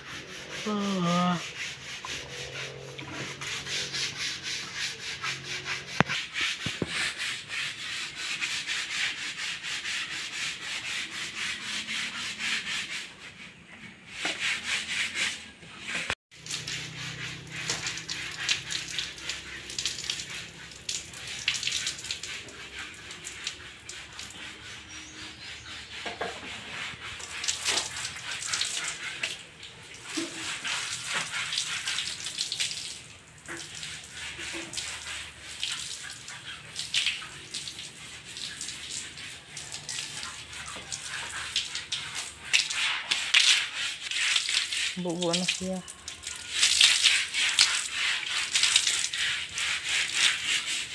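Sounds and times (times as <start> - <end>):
broom sweeping wet floor: 0.0 - 50.9
brush scrubbing concrete wall: 0.0 - 50.9.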